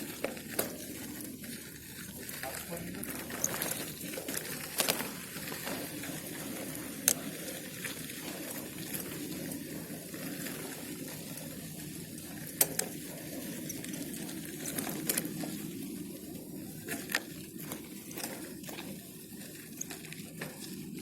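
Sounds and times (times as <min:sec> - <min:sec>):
bicycle tyres rolling on path: 0:00.0 - 0:21.0.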